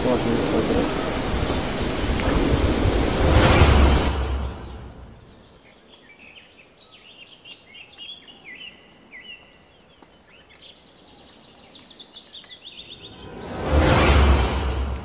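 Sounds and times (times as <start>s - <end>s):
songbirds chirping: 0.0s - 3.3s, 3.9s - 14.4s.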